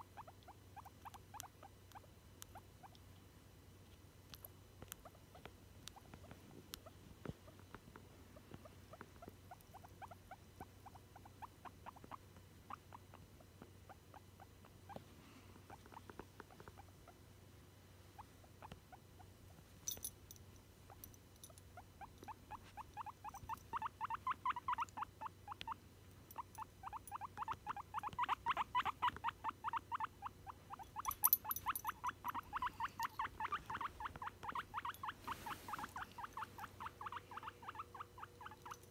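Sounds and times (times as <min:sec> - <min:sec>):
guinea pig squeaking: 0:00.0 - 0:03.0, 0:04.3 - 0:15.0, 0:15.7 - 0:17.2, 0:18.2 - 0:19.6, 0:21.7 - 0:38.9.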